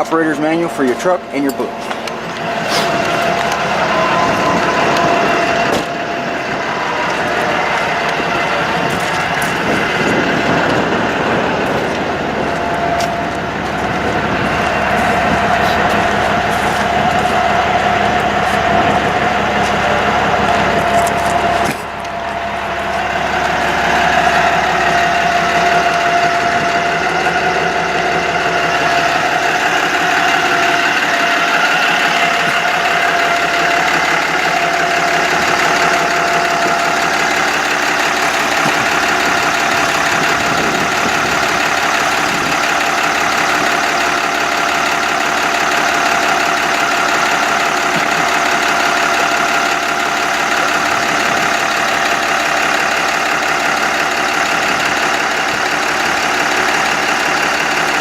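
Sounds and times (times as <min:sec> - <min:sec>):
diesel engine idling: 0:00.0 - 0:58.0
thin steady whine: 0:00.0 - 0:58.0.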